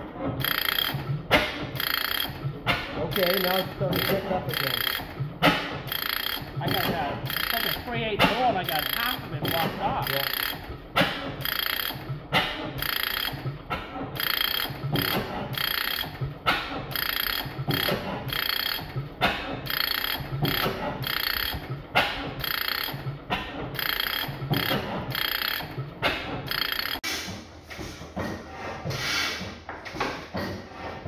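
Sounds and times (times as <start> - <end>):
engine clattering rhythmically: 0.0 - 31.0.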